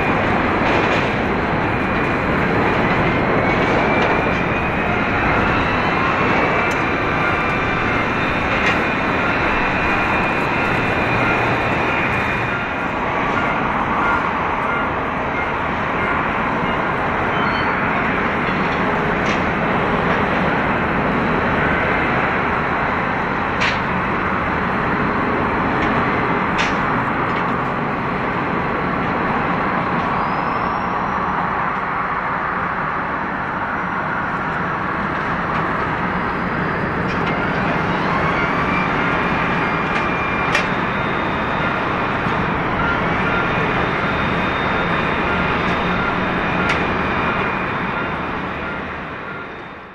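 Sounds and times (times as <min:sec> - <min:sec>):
jet engines idling: 0:00.0 - 0:49.9.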